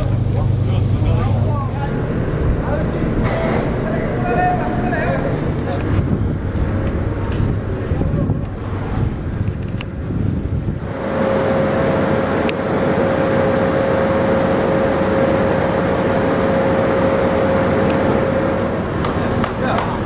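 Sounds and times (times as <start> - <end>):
loud rushing noise: 0.0 - 20.0
winch machinery rumbling and whining: 0.0 - 20.0.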